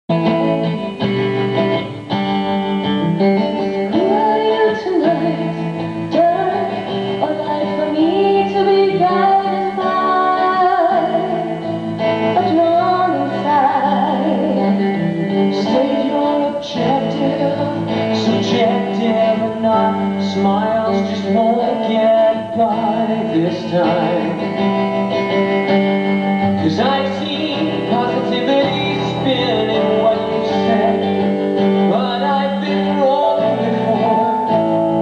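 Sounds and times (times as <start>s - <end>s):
band playing: 0.1s - 35.0s.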